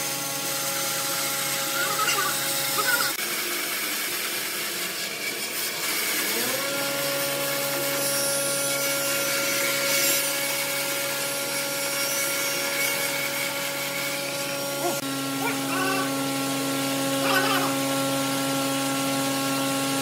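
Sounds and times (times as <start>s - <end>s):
bandsaw blade rasping through wood: 0.0s - 20.0s
bandsaw motor hum: 0.0s - 20.0s.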